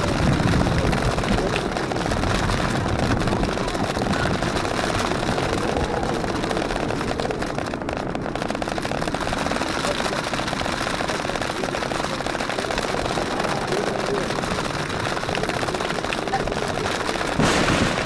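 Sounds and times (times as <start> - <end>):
engine and tyre noise: 0.0 - 18.0
rain and hail striking vehicle: 0.0 - 18.0.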